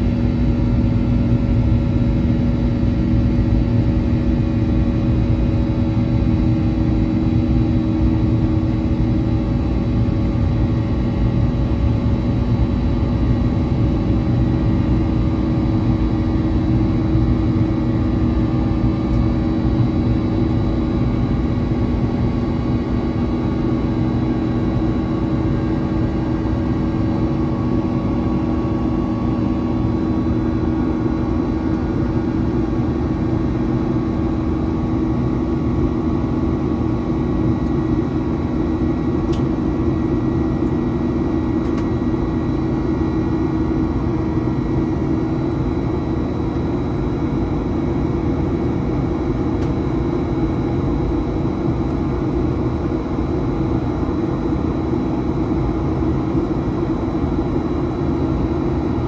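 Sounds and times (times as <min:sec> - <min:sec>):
constant hums: 0:00.0 - 0:59.0
jet engine and airflow roar: 0:00.0 - 0:59.0.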